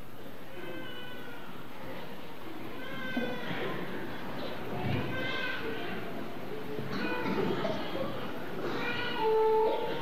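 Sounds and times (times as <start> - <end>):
room murmur: 0.0 - 10.0.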